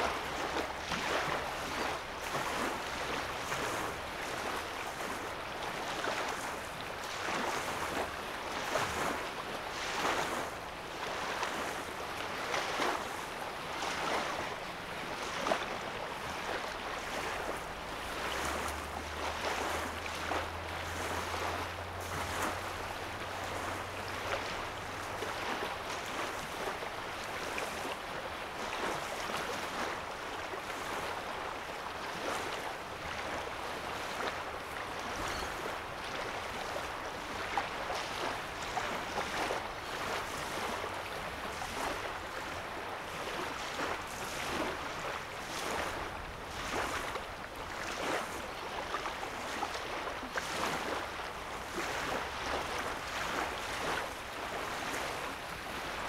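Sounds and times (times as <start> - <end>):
small waves lapping: 0.0 - 56.0.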